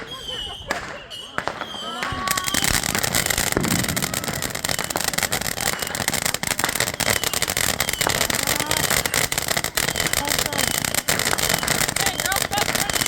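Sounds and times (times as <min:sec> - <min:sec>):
firework fountain crackling and hissing: 0:00.0 - 0:13.0.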